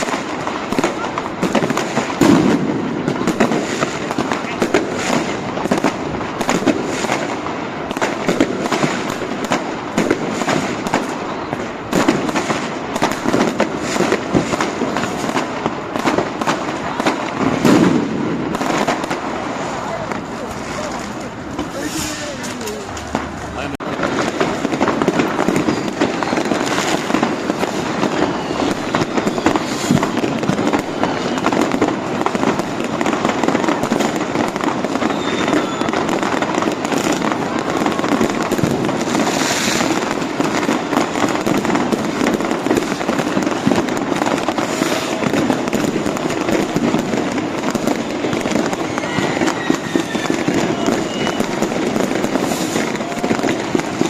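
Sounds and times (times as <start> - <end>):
fireworks crackling: 0.0 - 54.0
loud firework bursts: 0.0 - 54.0.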